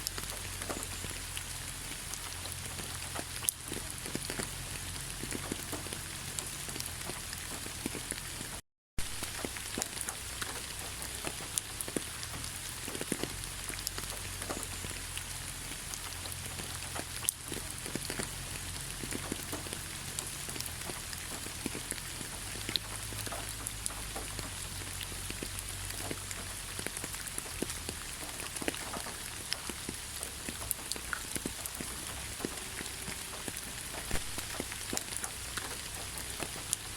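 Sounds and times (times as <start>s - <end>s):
raindrops ticking close by: 0.0s - 36.9s
steady rain falling: 0.0s - 36.9s.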